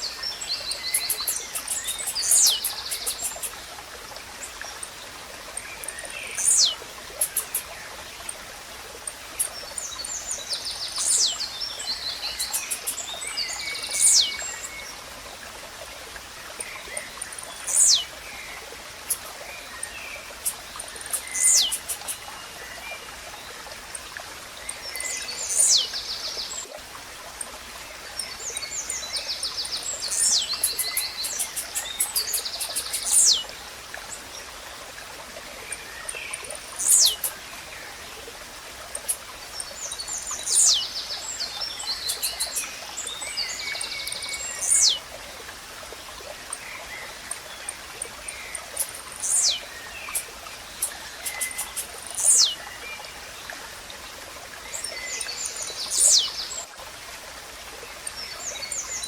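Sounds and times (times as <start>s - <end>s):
small birds chirping trills: 0.0s - 3.7s, 4.4s - 8.4s, 9.0s - 15.0s, 16.5s - 24.1s, 24.7s - 26.7s, 27.9s - 34.9s, 35.6s - 45.1s, 46.4s - 53.0s, 54.6s - 56.7s.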